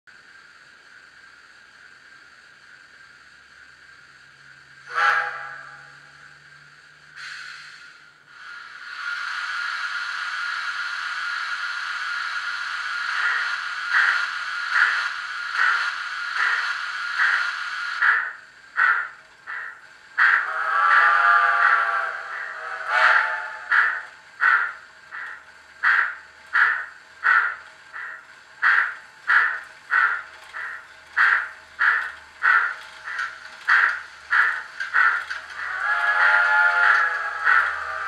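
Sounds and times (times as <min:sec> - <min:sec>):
steam hiss: 0:00.1 - 0:38.0
steam exhaust chuffs: 0:00.2 - 0:38.0.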